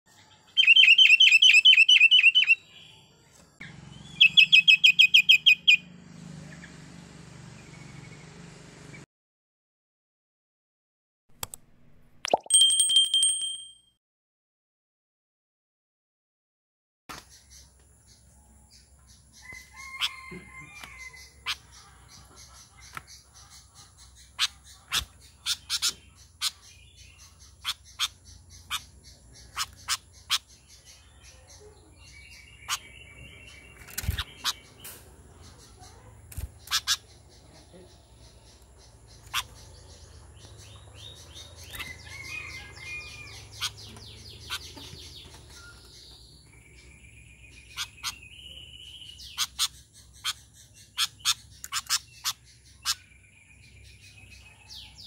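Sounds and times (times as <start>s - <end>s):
bird chirping calls: 0.1s - 9.0s, 17.1s - 55.0s.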